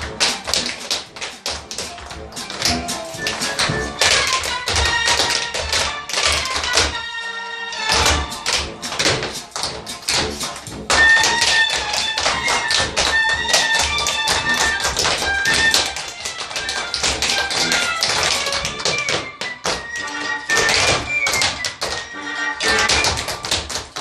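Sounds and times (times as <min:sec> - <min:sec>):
tap shoes clicking on floor: 0:00.0 - 0:07.0, 0:07.8 - 0:24.0
melodic music: 0:00.0 - 0:23.5.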